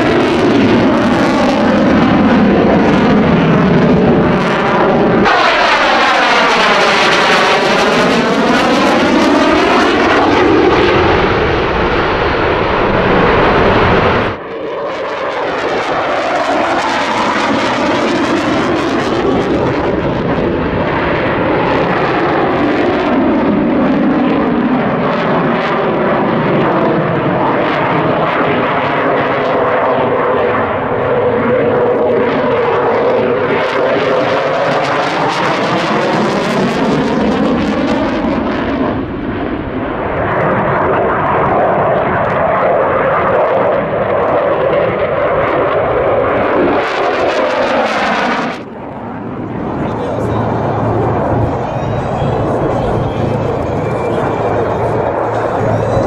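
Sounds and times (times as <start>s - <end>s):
jet engines roaring past: 0.0s - 56.0s.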